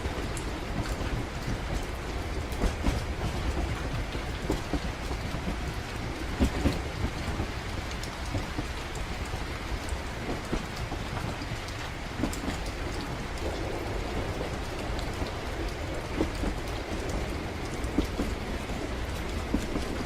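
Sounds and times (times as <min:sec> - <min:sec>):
rain on a train: 0:00.0 - 0:20.0
raindrop ticks: 0:00.0 - 0:20.0
train rumbling: 0:00.0 - 0:20.0.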